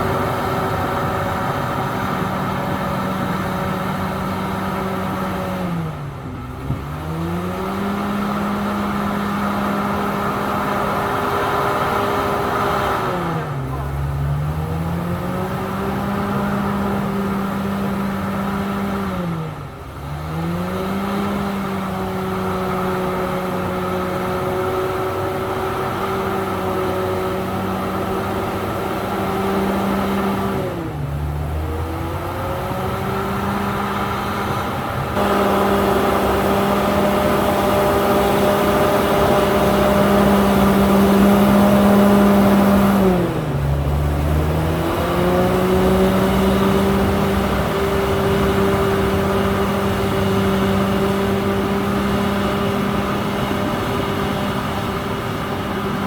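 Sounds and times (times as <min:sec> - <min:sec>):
bulldozer diesel engine revving: 0:00.0 - 0:56.0.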